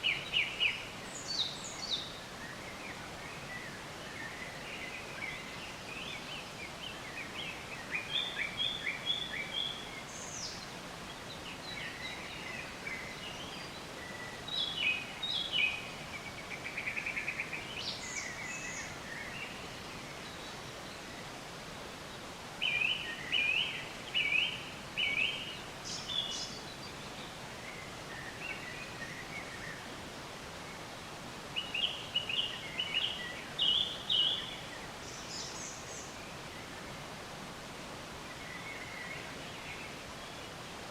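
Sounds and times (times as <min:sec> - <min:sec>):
background hiss: 0:00.0 - 0:40.9
songbirds chirping: 0:00.0 - 0:40.9.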